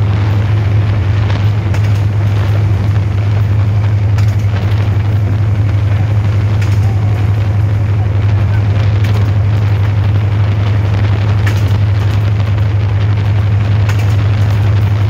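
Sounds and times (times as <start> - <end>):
locomotive engine drone: 0.0 - 15.0
train track noise: 0.0 - 15.0
wind noise: 0.0 - 15.0.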